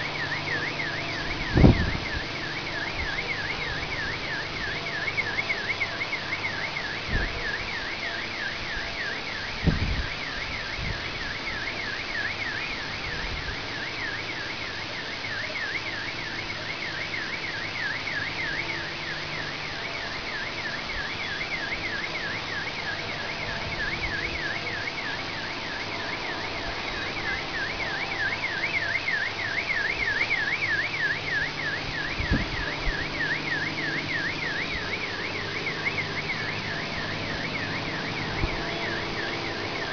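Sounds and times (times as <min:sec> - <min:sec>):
car alarm siren warbling: 0:00.0 - 0:39.9
low airplane motor drone: 0:00.0 - 0:39.9.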